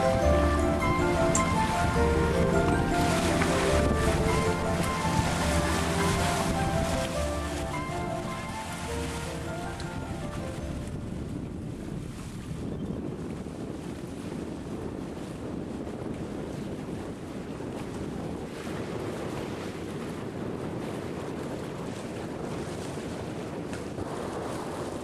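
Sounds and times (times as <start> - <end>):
water rushing along boat hull: 0.0 - 25.0
wind buffeting microphone: 0.0 - 25.0.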